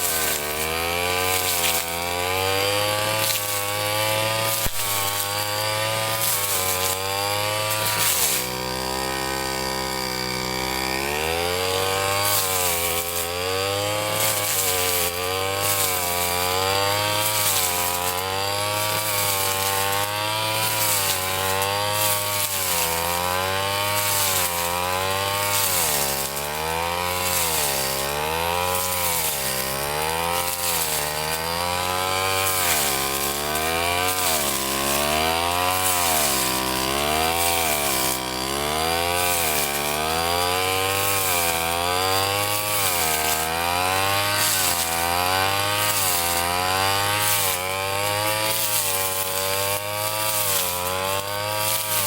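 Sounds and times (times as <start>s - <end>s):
brush cutter cutting grass: 0.0s - 52.0s.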